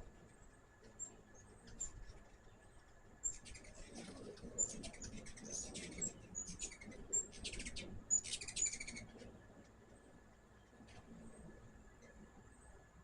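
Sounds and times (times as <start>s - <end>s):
hummingbirds chittering: 0.0s - 13.0s.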